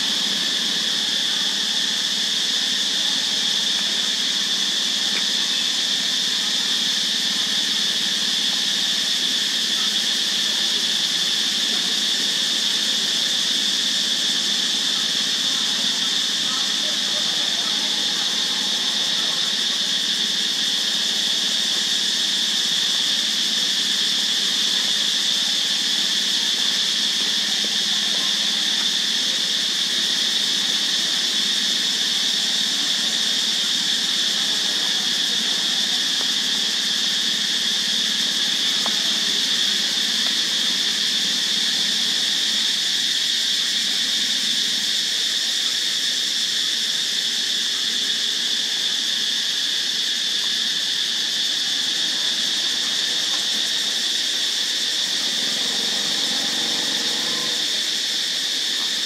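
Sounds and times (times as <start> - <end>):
insect chorus droning: 0.0 - 59.0.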